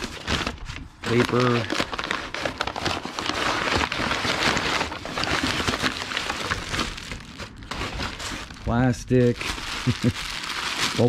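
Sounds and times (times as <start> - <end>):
packing paper crinkling: 0.0 - 11.0
plastic wrapping crackling: 0.0 - 11.0.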